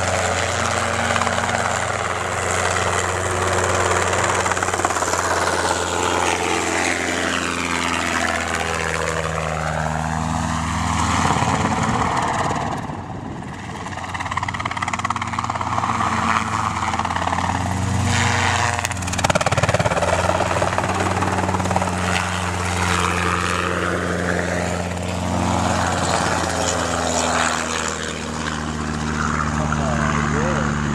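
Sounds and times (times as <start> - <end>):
helicopter flying low: 0.0 - 30.9.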